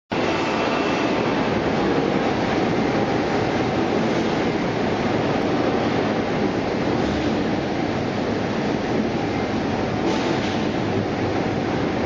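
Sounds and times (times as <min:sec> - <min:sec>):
conveyor machinery rumble and rattle: 0:00.1 - 0:12.0.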